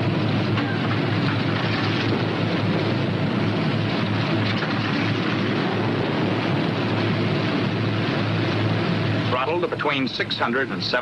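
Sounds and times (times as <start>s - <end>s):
aircraft radial engines rumbling: 0.0s - 11.0s
old film soundtrack noise: 0.0s - 11.0s.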